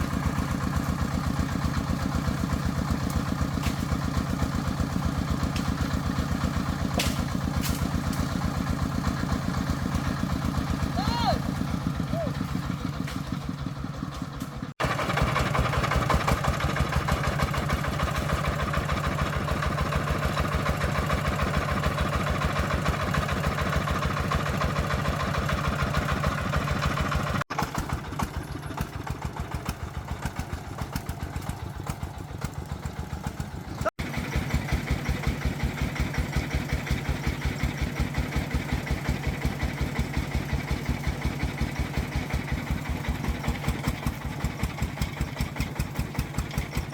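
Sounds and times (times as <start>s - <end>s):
diesel engine chugging: 0.0s - 46.9s.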